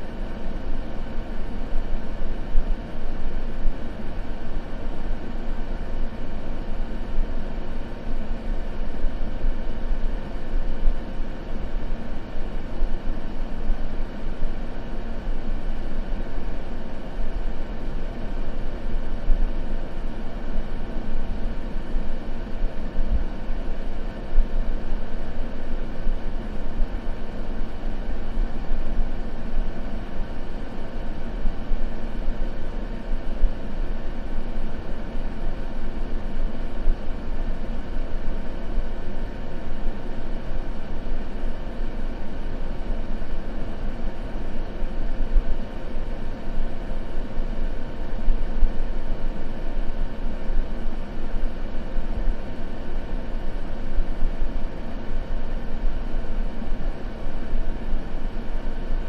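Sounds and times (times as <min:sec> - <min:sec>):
faint even hum: 0:00.0 - 0:59.0.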